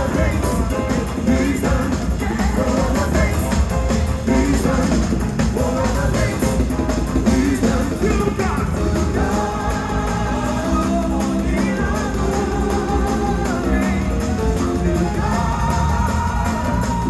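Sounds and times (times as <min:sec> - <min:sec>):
gospel band with drums: 0:00.0 - 0:17.0
singing voices: 0:00.0 - 0:17.0.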